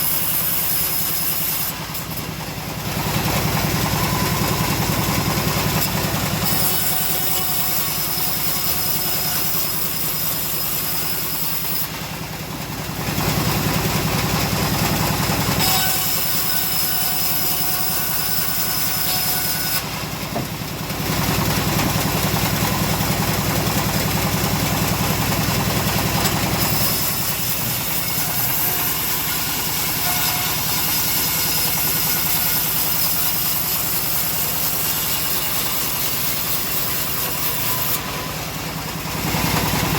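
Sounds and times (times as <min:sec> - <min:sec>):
engine-driven bandsaw sawing logs: 0:00.0 - 0:39.9.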